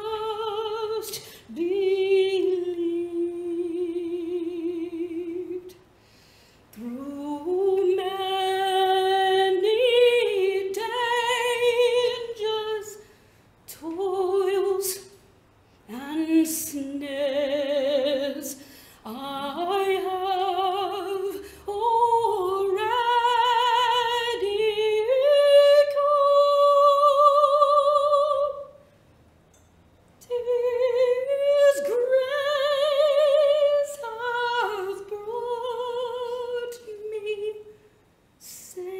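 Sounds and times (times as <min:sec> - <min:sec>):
woman singing unaccompanied: 0:00.0 - 0:05.8, 0:06.7 - 0:13.0, 0:13.7 - 0:15.2, 0:15.9 - 0:28.8, 0:30.2 - 0:37.7, 0:38.4 - 0:38.9.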